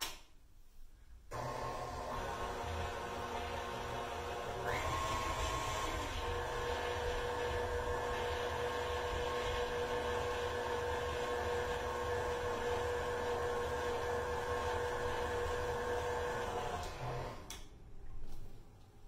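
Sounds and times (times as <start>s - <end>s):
stand mixer motor whining: 1.3s - 17.5s.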